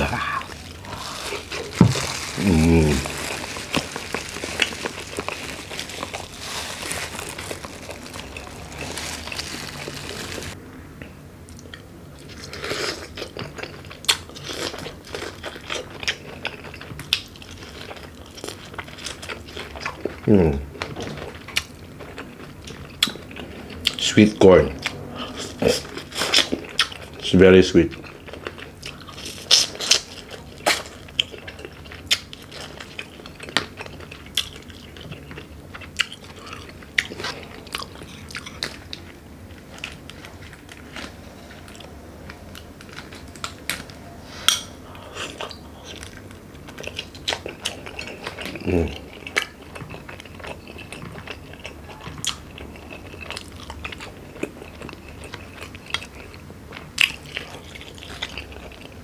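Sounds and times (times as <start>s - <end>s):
chewing and biting food: 0.0s - 10.6s, 11.5s - 59.0s.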